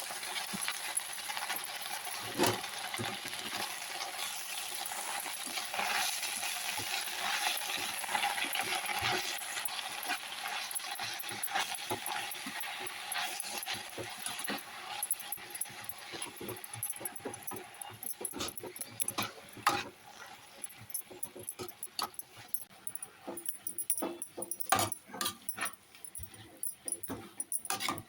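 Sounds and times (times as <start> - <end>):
food sizzling in a pan: 0.0 - 23.4
utensil clicks and scrapes: 4.8 - 28.0.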